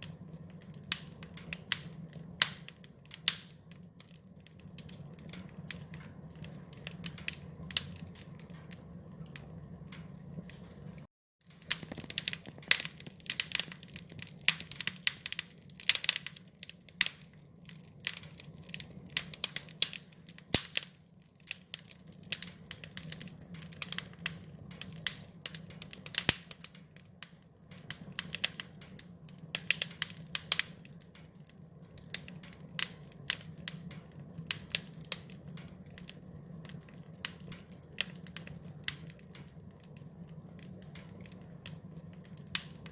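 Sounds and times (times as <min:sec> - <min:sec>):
low fire rumble: 0:00.0 - 0:42.9
wood fire crackling and popping: 0:00.0 - 0:42.9.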